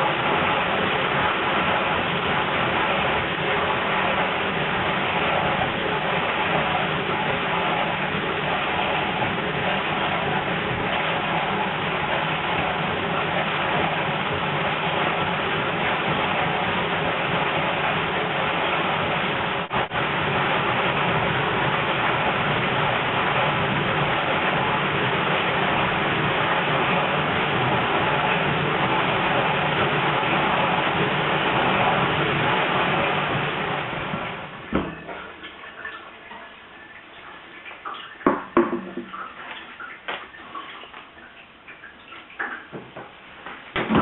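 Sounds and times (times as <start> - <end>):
washing machine water and motor: 0.0 - 44.0.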